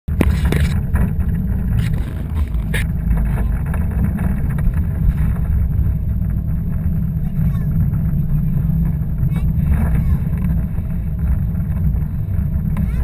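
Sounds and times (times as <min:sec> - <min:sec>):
motorboat rumble: 0:00.0 - 0:13.0
wind buffeting microphone: 0:00.1 - 0:13.0.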